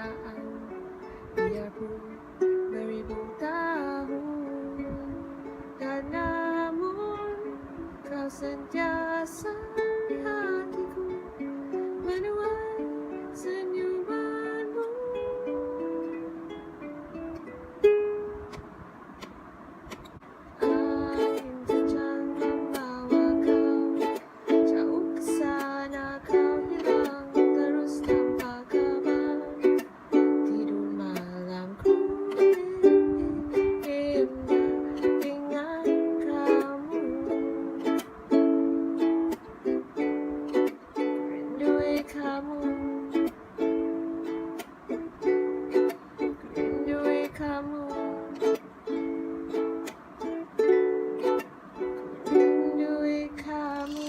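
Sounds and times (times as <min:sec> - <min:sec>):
ukulele strumming: 0:00.0 - 0:54.0.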